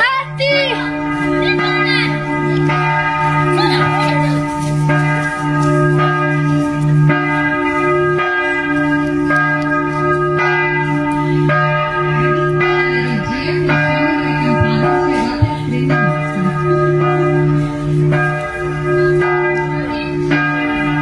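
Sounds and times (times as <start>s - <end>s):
bells ringing: 0.0s - 21.0s.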